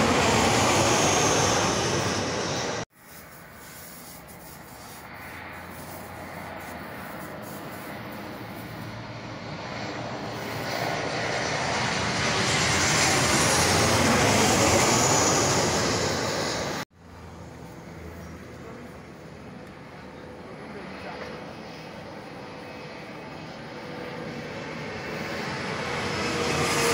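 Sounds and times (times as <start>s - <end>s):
jet airliner roaring overhead: 0.0s - 3.6s, 4.3s - 26.9s
high jet whine: 0.0s - 26.9s.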